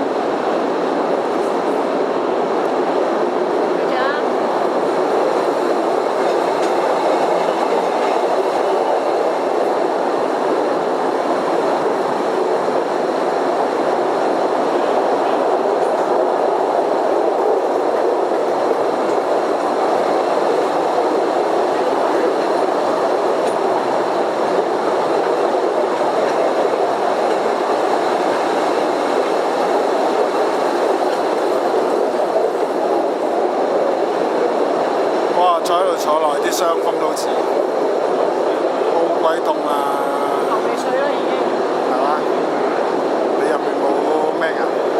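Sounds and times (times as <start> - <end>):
small train rolling on rails: 0.0 - 44.9.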